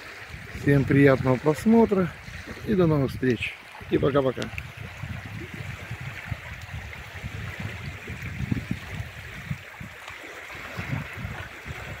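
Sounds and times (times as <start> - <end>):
waves lapping on pebble shore: 0.0 - 12.0
wind rumble on microphone: 0.0 - 12.0.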